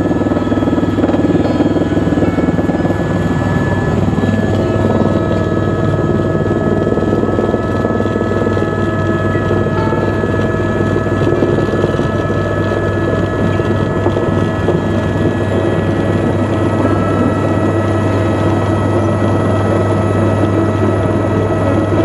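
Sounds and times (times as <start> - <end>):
helicopter turbine and rotor: 0.0 - 22.0.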